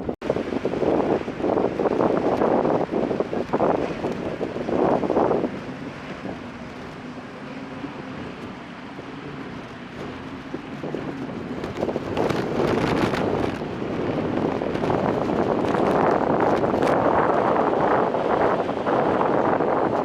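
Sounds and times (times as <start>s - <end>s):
boat engines running: 0.0s - 20.0s
water: 0.0s - 20.0s
wind buffeting microphone: 0.0s - 20.0s.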